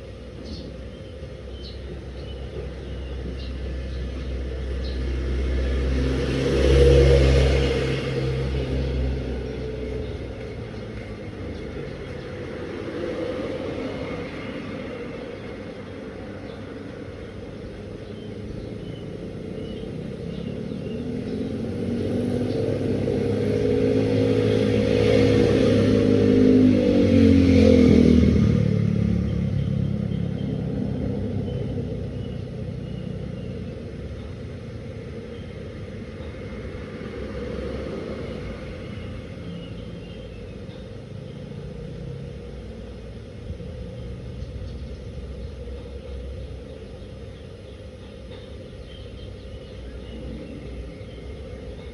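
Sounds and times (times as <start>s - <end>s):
motor vehicle passing by: 2.8s - 17.1s, 18.1s - 47.3s.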